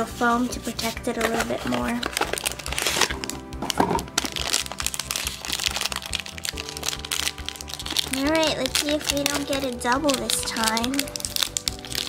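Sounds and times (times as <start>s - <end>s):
background music: 0.0s - 12.0s
foil and cardboard crinkling: 0.0s - 12.0s.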